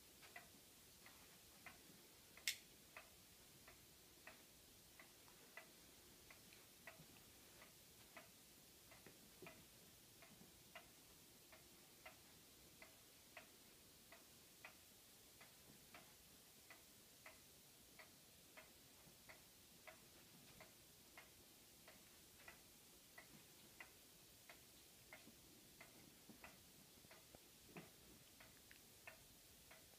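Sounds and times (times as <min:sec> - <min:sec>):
faint regular ticking: 0:00.0 - 0:29.9.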